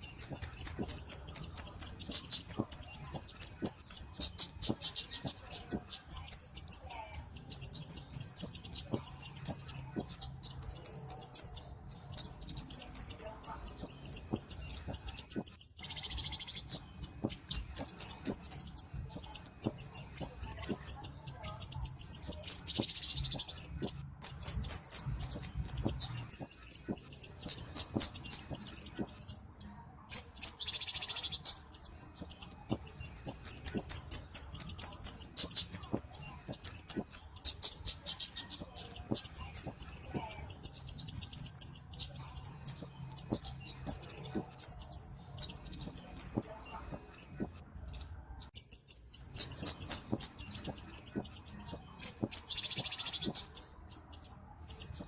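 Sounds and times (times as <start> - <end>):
bird singing high thin chirps: 0.0 - 55.0.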